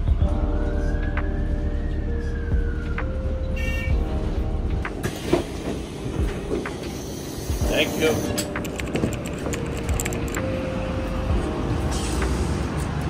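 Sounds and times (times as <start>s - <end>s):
bus engine low rumble: 0.0s - 13.0s
bus whine: 0.0s - 13.0s.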